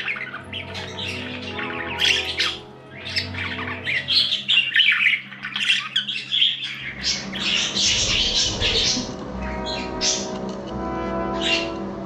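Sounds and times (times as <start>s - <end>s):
budgerigars chattering and squawking: 0.0s - 10.4s, 11.3s - 11.8s
soft background music: 0.0s - 12.0s.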